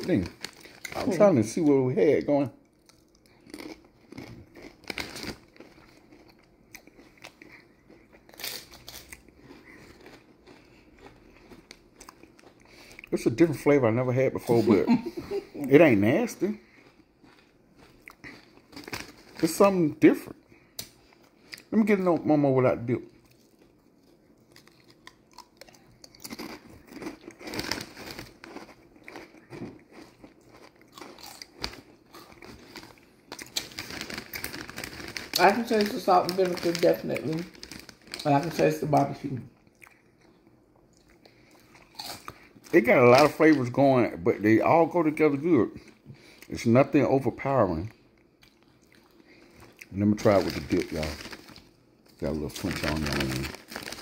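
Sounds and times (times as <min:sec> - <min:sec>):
person chewing potato chips: 0:00.0 - 0:43.8, 0:47.8 - 0:54.0.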